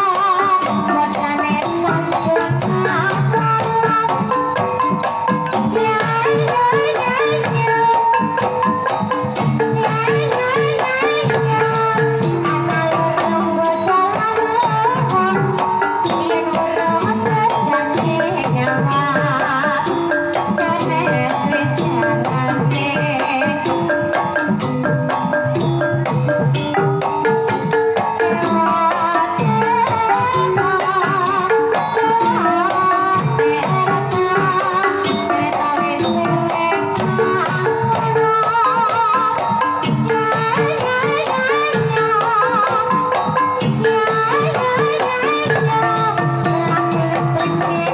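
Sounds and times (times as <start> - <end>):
hand drum rhythm: 0.0 - 47.9
woman singing: 0.0 - 47.9.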